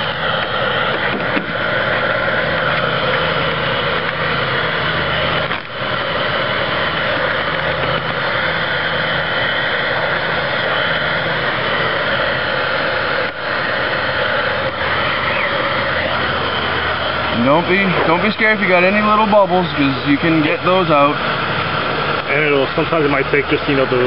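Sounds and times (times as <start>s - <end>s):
hair dryer blowing: 0.0s - 24.0s.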